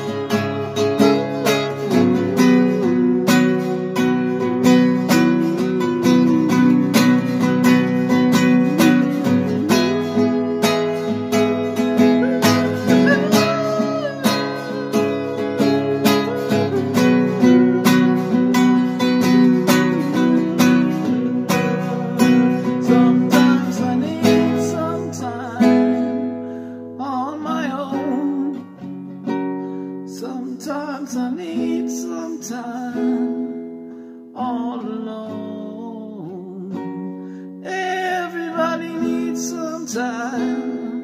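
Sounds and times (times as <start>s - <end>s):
classical guitar strumming chords: 0.0s - 41.0s.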